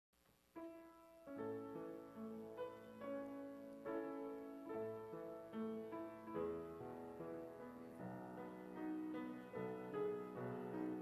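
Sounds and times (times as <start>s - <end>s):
grand piano playing hymn chords: 0.6s - 11.0s.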